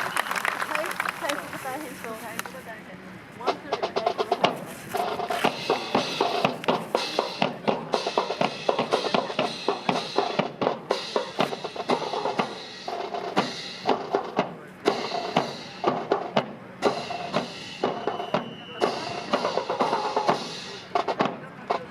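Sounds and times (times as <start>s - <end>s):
fast snare and bass drums: 3.4s - 21.9s.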